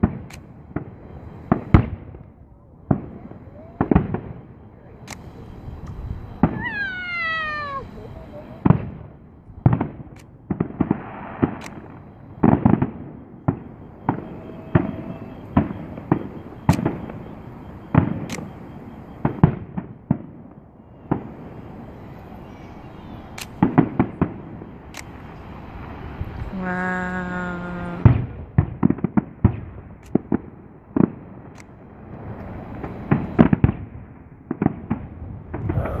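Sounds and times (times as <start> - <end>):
fireworks bursting with sharp bangs: 0.0 - 36.0.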